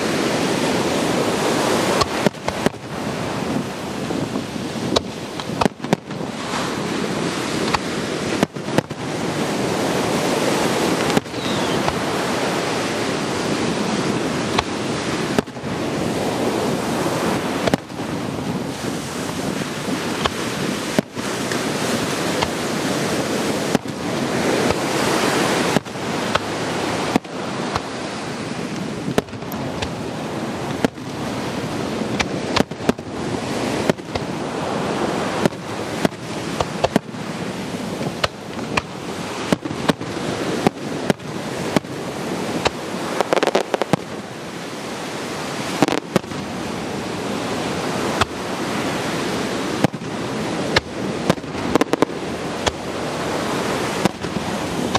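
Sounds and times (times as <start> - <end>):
fireworks bursting: 0.0 - 54.9
surf: 0.0 - 54.9
wind on microphone: 0.0 - 54.9.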